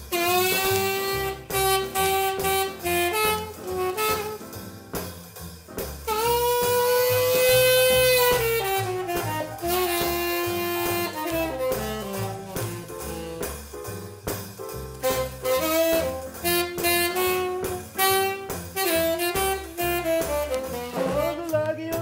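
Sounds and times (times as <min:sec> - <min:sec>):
saxophone lead line: 0:00.0 - 0:04.6, 0:06.1 - 0:13.7, 0:15.0 - 0:21.8
walking bass line: 0:00.0 - 0:22.0.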